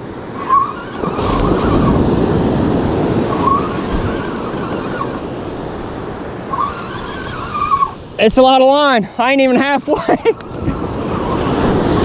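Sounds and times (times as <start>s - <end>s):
wind on microphone: 0.0s - 8.2s, 10.2s - 12.0s
ocean surf breaking on beach: 0.0s - 12.0s.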